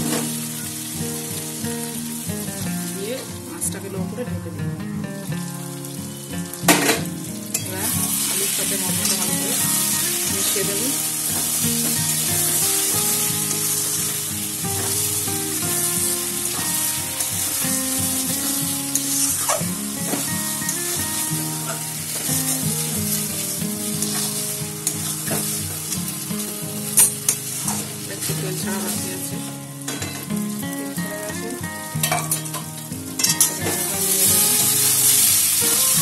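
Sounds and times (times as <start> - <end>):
curry sizzling in a metal pan: 0.0 - 36.0.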